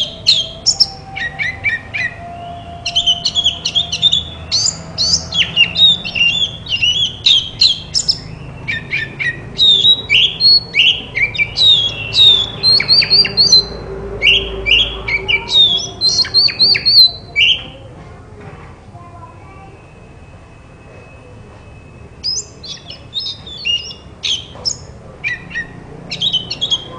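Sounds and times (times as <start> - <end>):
songbird singing whistles and chatter: 0.0 - 18.0, 19.1 - 26.9.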